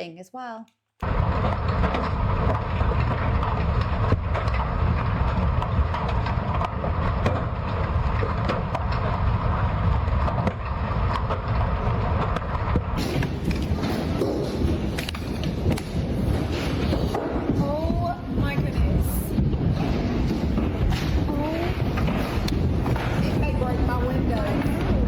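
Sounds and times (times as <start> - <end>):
large hailstones pounding: 1.0 - 25.0.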